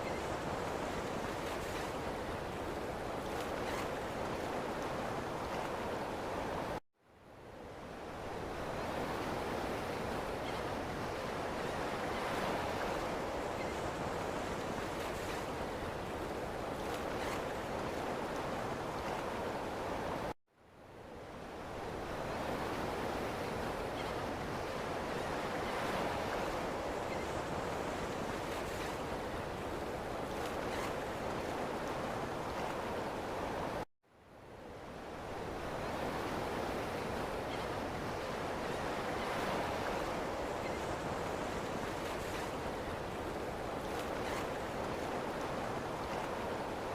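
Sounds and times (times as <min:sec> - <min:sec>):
ocean surf washing on beach: 0:00.0 - 0:06.8, 0:07.4 - 0:46.9.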